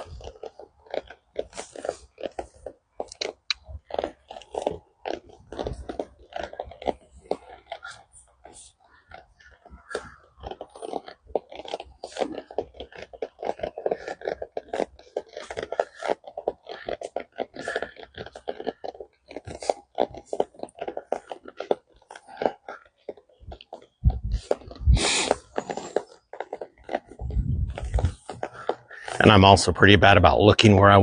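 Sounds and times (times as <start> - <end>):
horse hooves crunching: 0.0 - 31.0.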